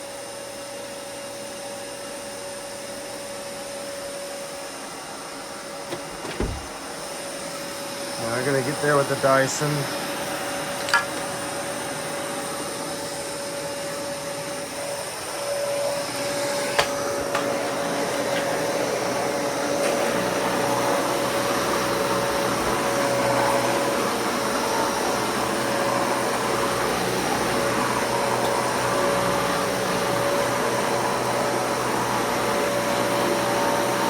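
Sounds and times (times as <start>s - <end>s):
vacuum cleaner whooshing hum: 0.0s - 34.0s.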